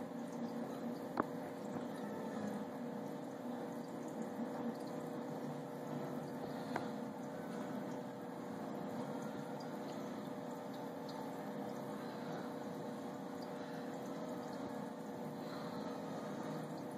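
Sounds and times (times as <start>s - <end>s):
filter pump hum: 0.0s - 16.9s
water trickling: 0.0s - 16.9s.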